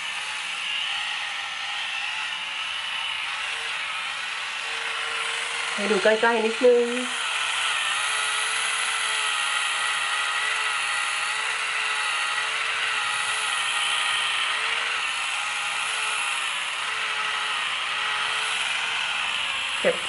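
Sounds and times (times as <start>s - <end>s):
electric epilator motor whine: 0.0s - 20.0s.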